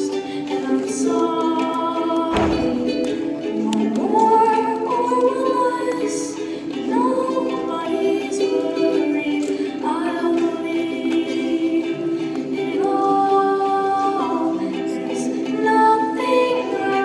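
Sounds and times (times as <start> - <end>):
girl singing: 0.0 - 17.0
strummed ukulele: 0.0 - 17.0.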